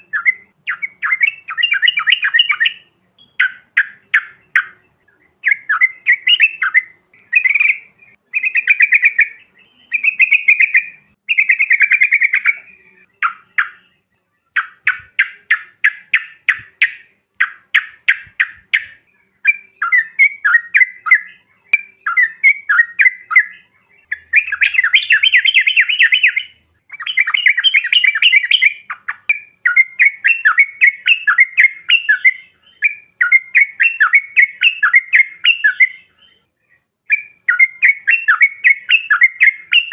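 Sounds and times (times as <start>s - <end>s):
bulbuls singing and chattering: 0.0s - 39.9s.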